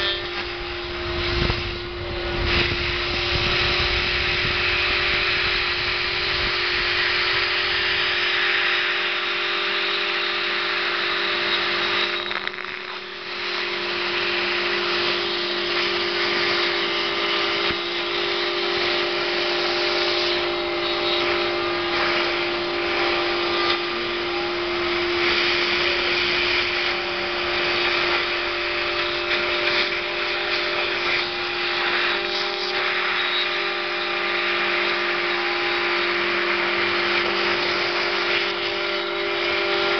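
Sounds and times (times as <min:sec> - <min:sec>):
router spindle whine and cutting hiss: 0:00.0 - 0:39.9.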